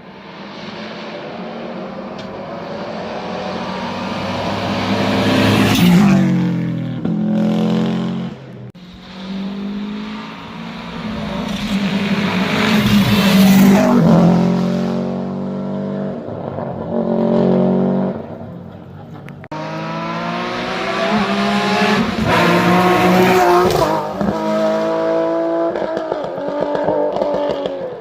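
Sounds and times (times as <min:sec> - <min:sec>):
rally cars passing at speed: 0:00.0 - 0:28.0.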